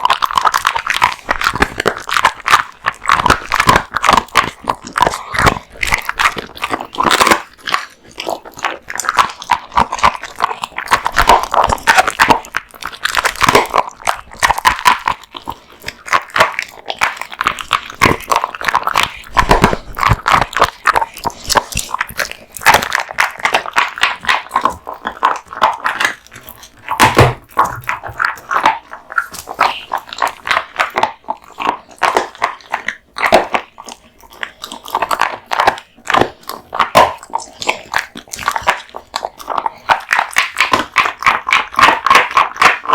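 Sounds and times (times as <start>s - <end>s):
dog chewing meat and bones: 0.0s - 42.9s.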